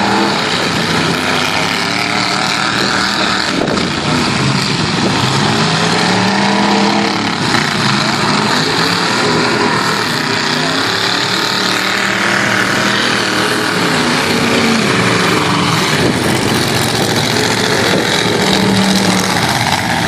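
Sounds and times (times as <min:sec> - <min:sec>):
pickup truck engines revving: 0:00.0 - 0:20.0.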